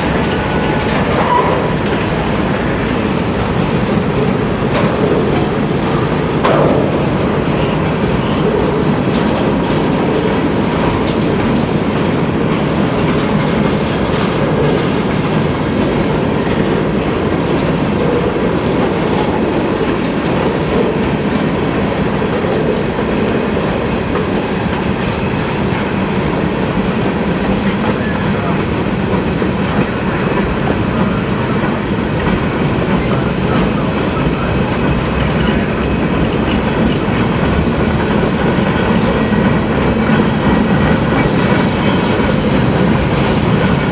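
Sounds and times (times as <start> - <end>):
freight train rumbling past: 0.0 - 43.9
wheels clacking over rail joints: 0.0 - 43.9.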